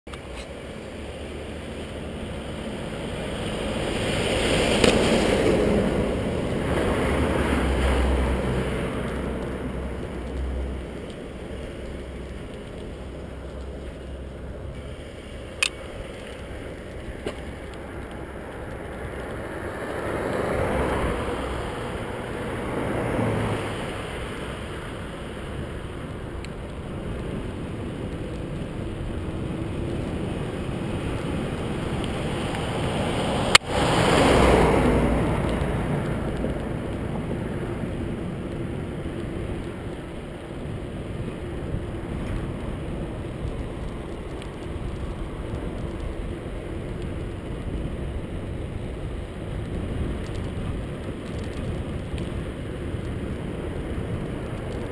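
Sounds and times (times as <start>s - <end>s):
bicycle road rumble: 0.1s - 54.9s
wind rushing over microphone: 0.1s - 54.9s.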